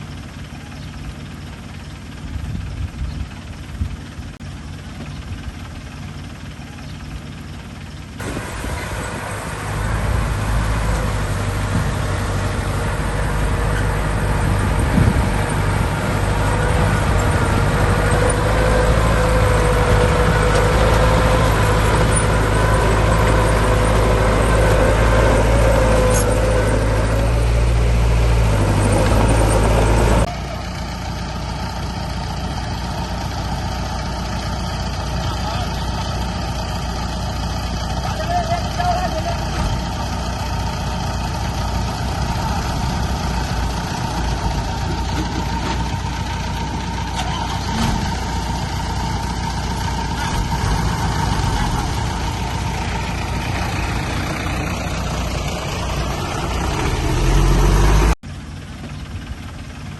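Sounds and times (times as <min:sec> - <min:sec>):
engine whine: 0:00.0 - 0:59.9
heavy diesel engines rumbling: 0:00.0 - 0:59.9.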